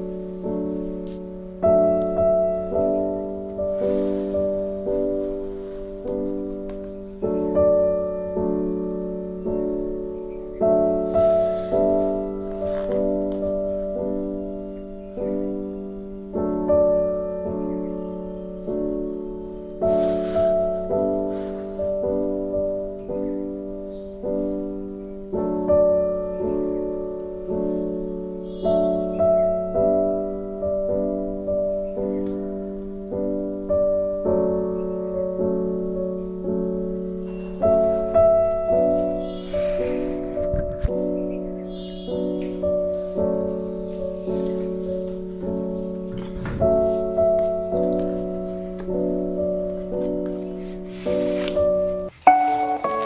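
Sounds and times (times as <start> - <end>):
slow piano chords: 0.0 - 53.0.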